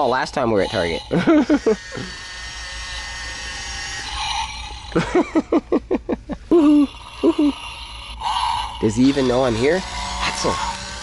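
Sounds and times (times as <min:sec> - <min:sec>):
toy engine sound effect: 0:00.0 - 0:05.0, 0:06.5 - 0:11.0.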